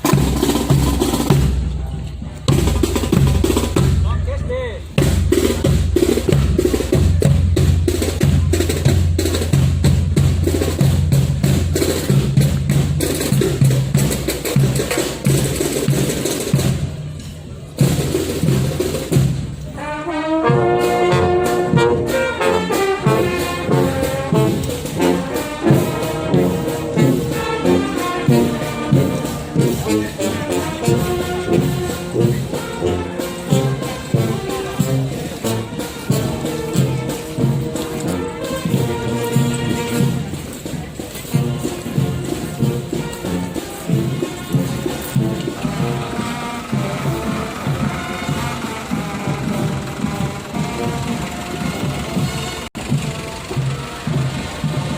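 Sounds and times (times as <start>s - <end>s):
dense drumming: 0.0s - 1.9s, 2.5s - 17.1s, 17.7s - 54.9s.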